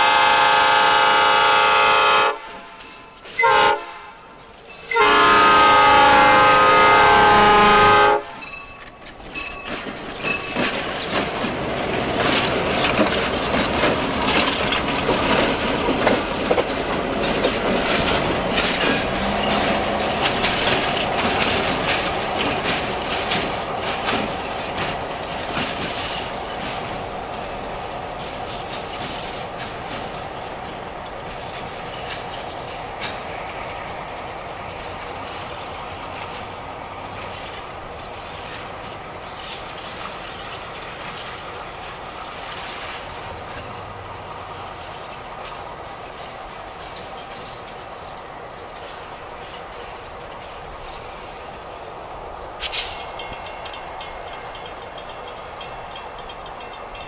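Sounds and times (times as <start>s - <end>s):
train cars rumbling on rails: 0.0s - 57.0s
wheels clicking over track: 8.6s - 57.0s.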